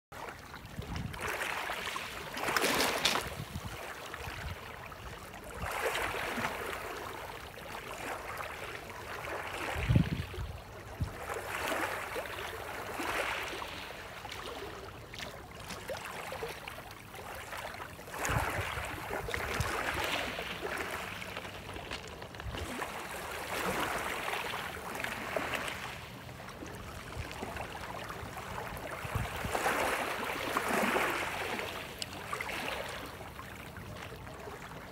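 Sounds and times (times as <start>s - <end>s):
small waves washing in: 0.2s - 34.9s.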